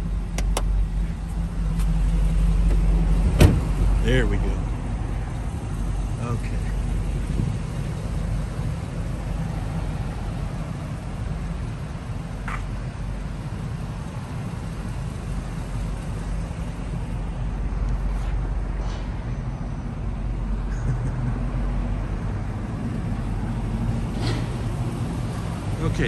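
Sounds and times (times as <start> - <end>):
engine running at low speed: 0.0 - 26.0.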